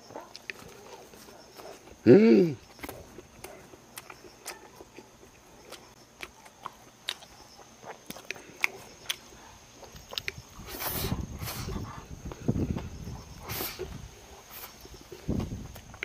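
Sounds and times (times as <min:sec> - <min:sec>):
person chewing food: 0:00.0 - 0:02.0, 0:02.6 - 0:16.0.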